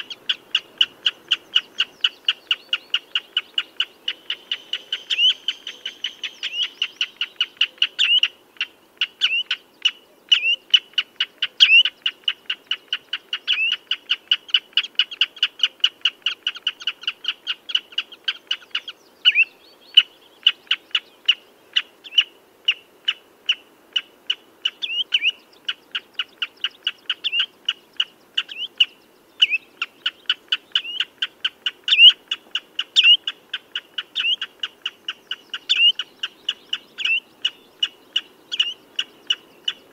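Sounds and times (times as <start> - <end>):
redshank piping calls: 0.0 - 39.9.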